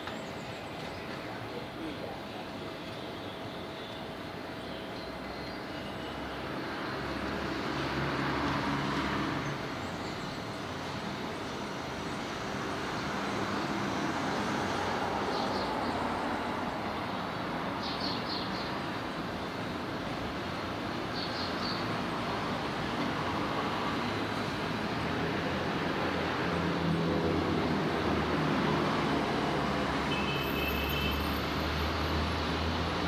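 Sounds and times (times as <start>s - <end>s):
traffic rumble: 0.0s - 33.0s.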